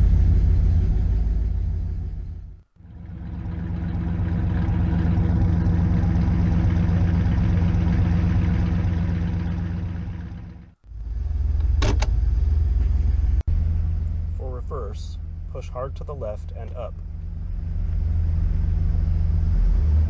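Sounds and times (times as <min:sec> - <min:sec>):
car engine idling: 0:00.0 - 0:19.4.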